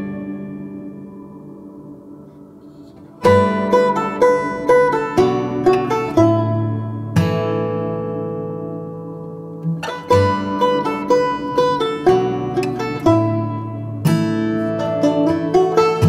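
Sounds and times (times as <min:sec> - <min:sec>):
acoustic guitar and banjo music: 0:00.0 - 0:16.0.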